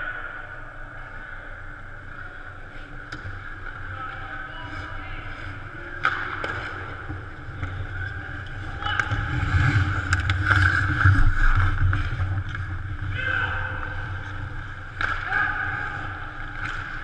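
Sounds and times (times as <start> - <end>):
hockey sticks and puck clacking: 2.1 - 17.0
skates scraping ice: 2.8 - 17.0.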